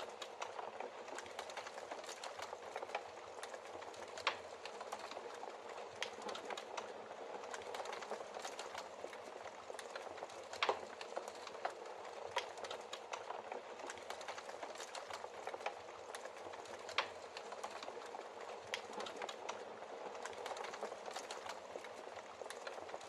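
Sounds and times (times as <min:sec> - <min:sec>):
logs crackling and popping: 0:00.0 - 0:23.0.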